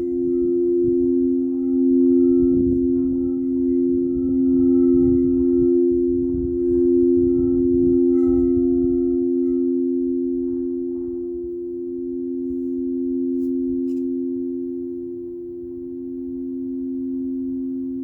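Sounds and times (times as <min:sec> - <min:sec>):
singing bowl ringing: 0:00.0 - 0:18.0.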